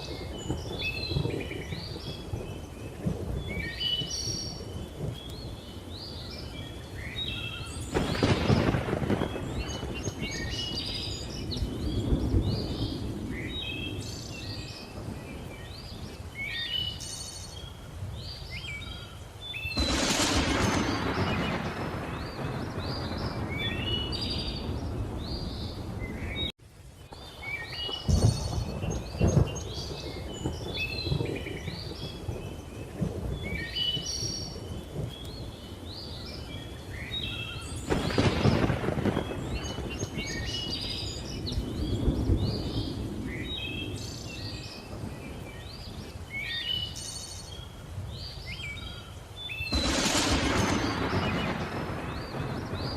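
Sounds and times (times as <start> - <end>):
thunder rumbling: 0.0 - 19.0, 19.6 - 49.0, 49.6 - 52.9
birds chirping and whistling: 0.0 - 26.5, 27.2 - 52.9
rain hissing: 0.0 - 52.9.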